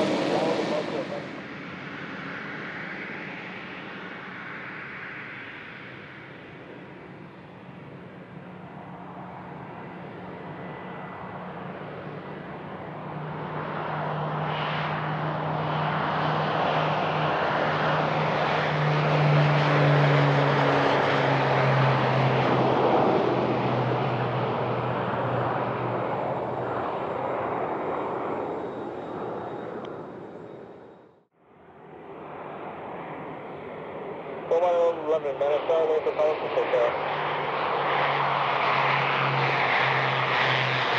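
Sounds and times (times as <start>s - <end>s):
airplane passing close by: 0.0s - 40.9s.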